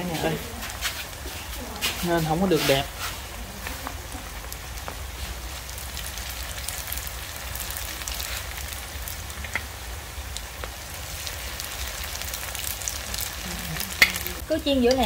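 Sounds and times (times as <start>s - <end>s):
deep-frying sizzle with crackles: 0.0s - 15.0s.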